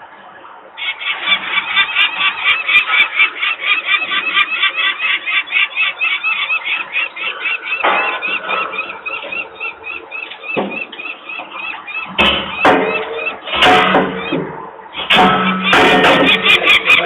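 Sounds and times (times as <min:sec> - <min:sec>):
falcon alarm cacking: 0:00.8 - 0:17.0.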